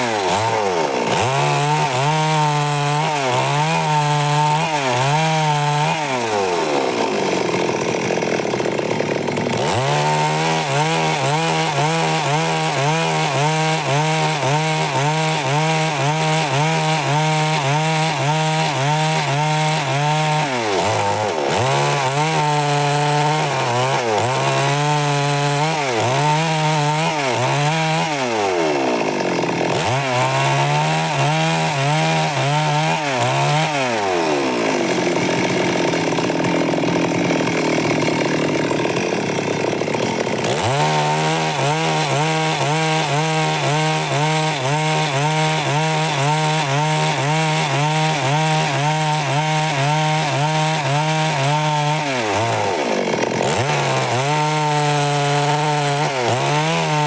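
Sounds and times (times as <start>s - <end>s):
chainsaw cutting through wood: 0.0s - 57.0s.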